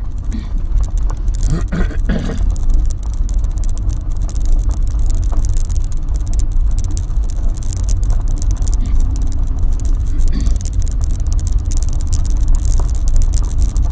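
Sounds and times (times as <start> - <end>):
car engine and road rumble: 0.0 - 13.9
tyre noise: 0.0 - 13.9.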